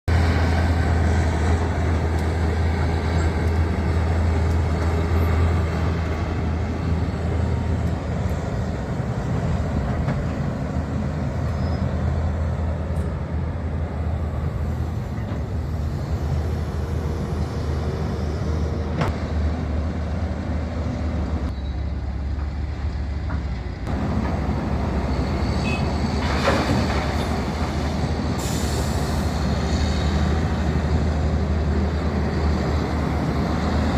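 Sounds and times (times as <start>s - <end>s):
diesel machine engine drone: 0.1s - 33.9s.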